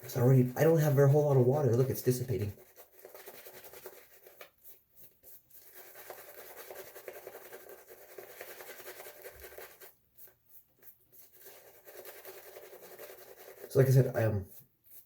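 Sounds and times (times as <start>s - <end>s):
shaving brush swirling lather: 0.0s - 15.0s.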